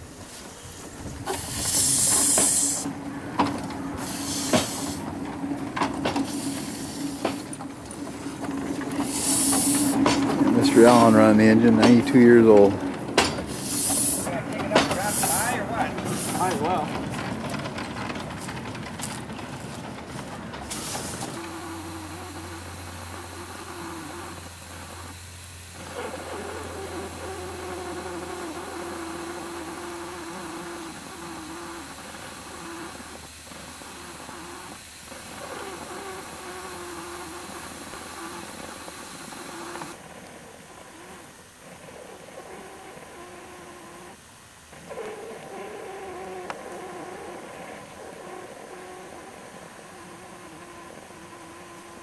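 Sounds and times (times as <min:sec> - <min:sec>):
steam locomotive hissing: 0:00.0 - 0:44.6
steady low hum: 0:00.0 - 0:52.0.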